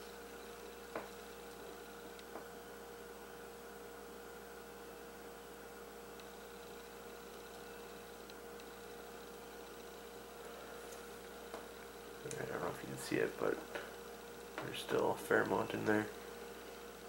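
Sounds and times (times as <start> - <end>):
faint electrical hum: 0.0 - 17.0
low hiss: 0.0 - 17.0.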